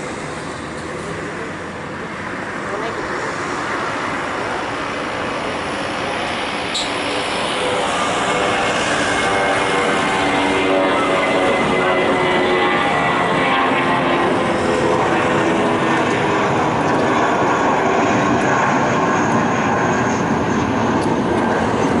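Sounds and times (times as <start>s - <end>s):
engine whine: 0.0s - 22.0s
jet engines taxiing: 0.0s - 22.0s.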